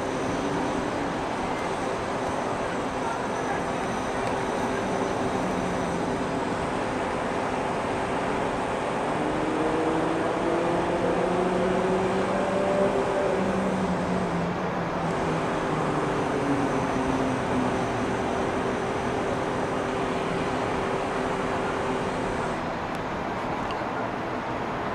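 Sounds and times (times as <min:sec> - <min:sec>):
city traffic noise: 0:00.0 - 0:24.9.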